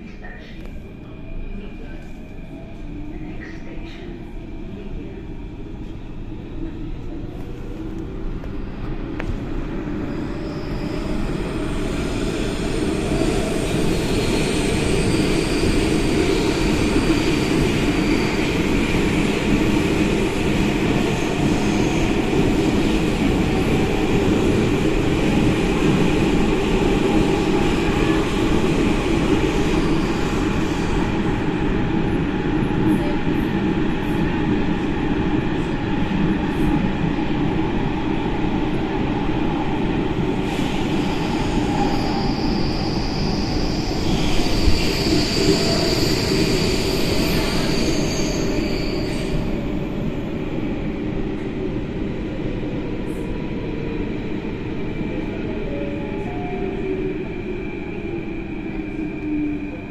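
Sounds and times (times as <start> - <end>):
train rumbling through tunnel: 0.0 - 59.9.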